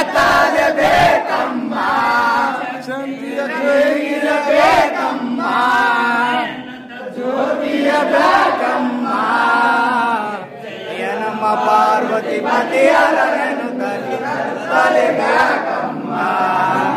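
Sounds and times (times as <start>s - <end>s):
men chanting in unison: 0.0s - 16.9s.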